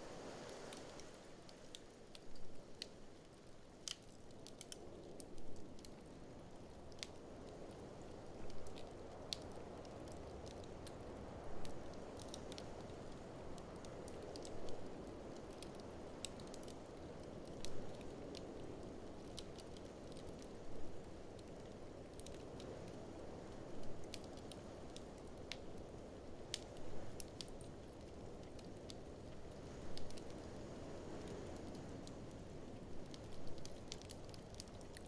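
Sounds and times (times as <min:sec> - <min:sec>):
wood fire crackling and popping: 0:00.2 - 0:35.0.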